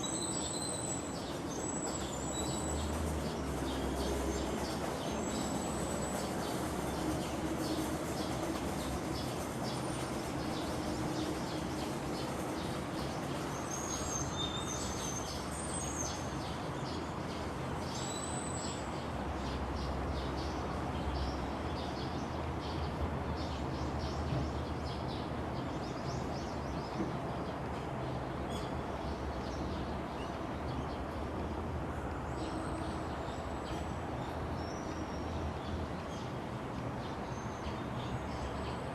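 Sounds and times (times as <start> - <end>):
steady background noise: 0.0 - 38.9.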